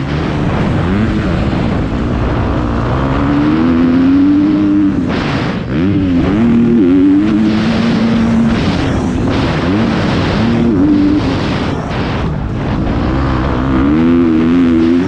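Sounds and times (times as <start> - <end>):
motocross bike engine revving: 0.0 - 15.0
wind rushing over microphone: 0.0 - 15.0.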